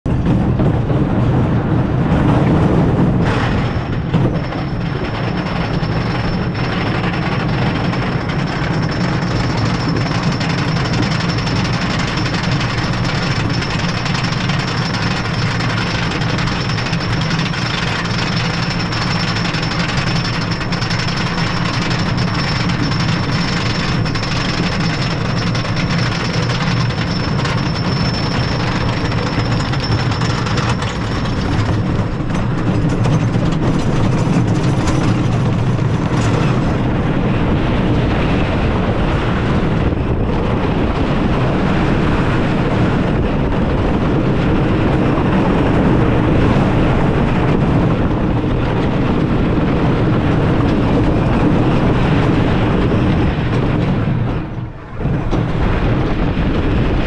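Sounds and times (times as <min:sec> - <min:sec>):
roller coaster rumbling and clattering: 0:00.0 - 0:57.0
wind rushing: 0:00.0 - 0:57.0.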